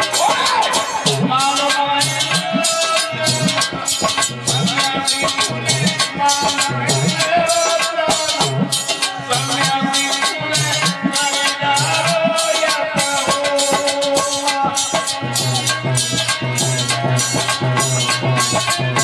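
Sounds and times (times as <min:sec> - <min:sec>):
hand drum: 0:00.0 - 0:19.0
harmonium: 0:00.0 - 0:19.0
man singing: 0:00.0 - 0:19.0.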